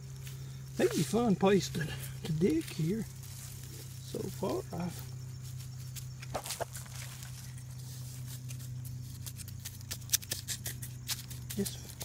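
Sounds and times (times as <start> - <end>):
low steady hum: 0.0 - 12.0
hands digging in dry leaves: 0.2 - 12.0.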